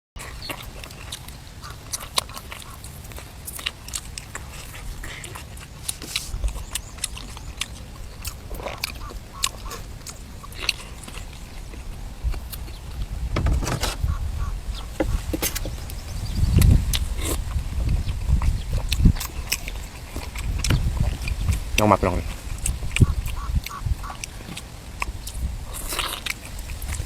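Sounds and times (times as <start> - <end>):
person chewing food: 0.2 - 13.3, 14.0 - 27.0.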